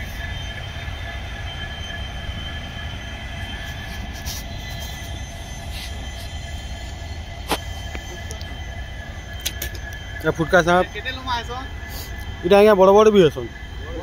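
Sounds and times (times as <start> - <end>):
high steady whine: 0.0 - 14.0
train low rumble: 0.0 - 14.0.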